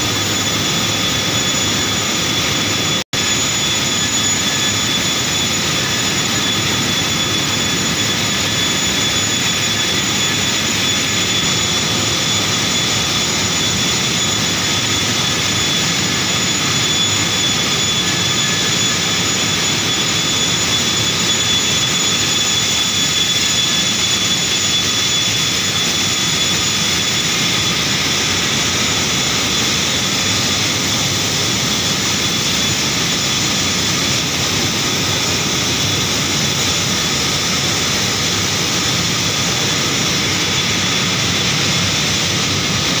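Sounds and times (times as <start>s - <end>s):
high steady whining tones: 0.0s - 43.0s.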